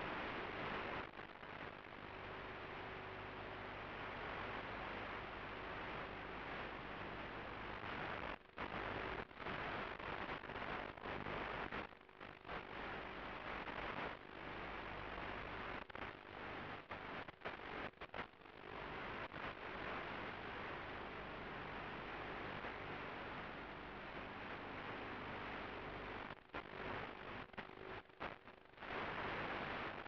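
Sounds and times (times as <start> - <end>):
static hiss: 0.0 - 30.0.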